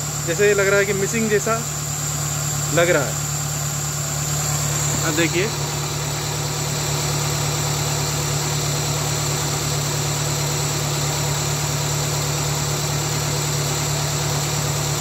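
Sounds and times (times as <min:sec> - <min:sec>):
rough car engine idling: 0:00.0 - 0:15.0.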